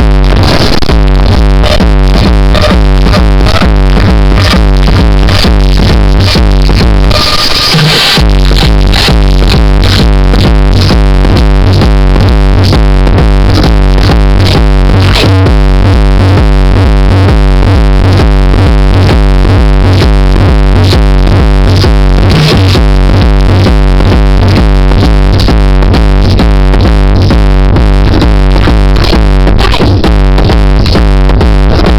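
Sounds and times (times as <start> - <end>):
loud electronic dance music: 0.0 - 31.9.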